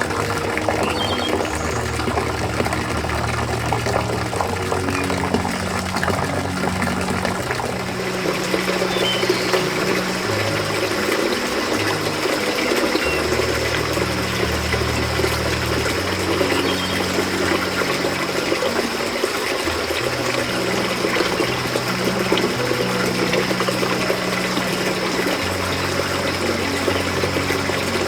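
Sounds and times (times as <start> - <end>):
rushing water-like noise: 0.0 - 28.0
slow low background music: 0.0 - 28.0.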